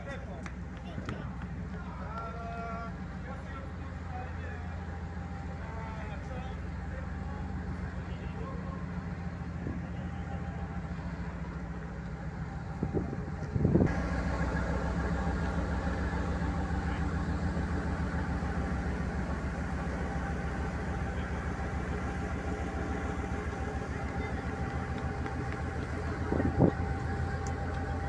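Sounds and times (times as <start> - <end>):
locomotive diesel engine throbbing: 0.0 - 28.0.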